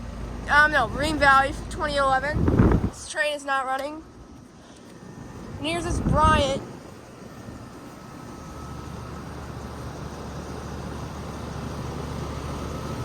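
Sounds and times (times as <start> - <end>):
compressor hum: 0.0 - 13.0
fan noise: 0.0 - 13.0.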